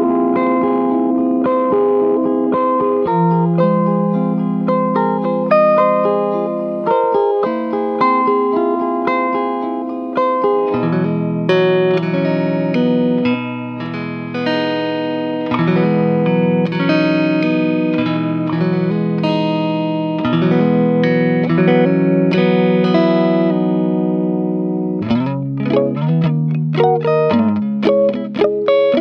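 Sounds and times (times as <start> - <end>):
compressed electric guitar melody: 0.0 - 29.0.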